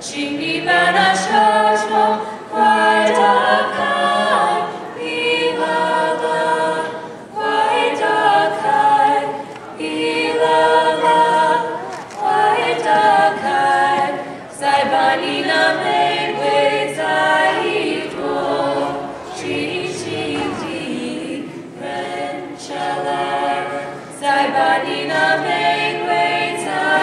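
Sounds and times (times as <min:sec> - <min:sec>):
group singing unaccompanied: 0:00.0 - 0:27.0.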